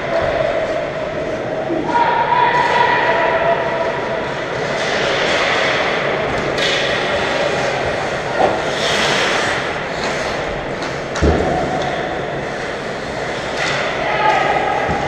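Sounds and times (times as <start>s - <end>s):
skates and sticks scraping ice: 0.0s - 15.0s.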